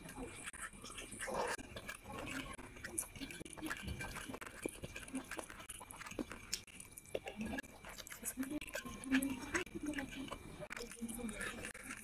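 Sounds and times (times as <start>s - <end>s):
chewing food: 0.0s - 12.0s.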